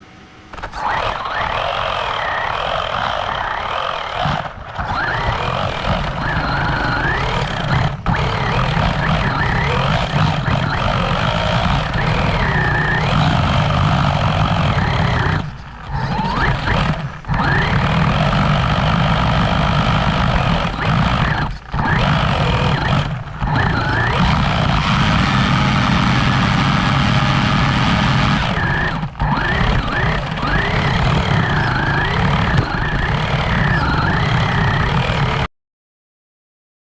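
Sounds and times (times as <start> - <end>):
motor whine: 0.0 - 35.5
rc car drivetrain rumble: 0.0 - 35.5.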